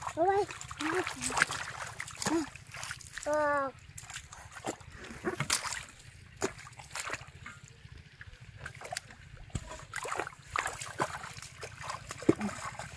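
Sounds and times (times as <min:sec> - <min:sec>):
feet wading through mud: 0:00.0 - 0:12.9
fish splashing into water pot: 0:00.0 - 0:12.9.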